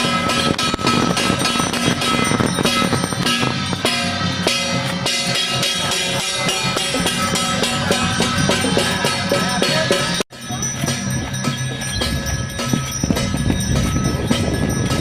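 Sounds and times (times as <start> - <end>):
fast drum and percussion music: 0.0 - 15.0
held notes: 0.0 - 15.0.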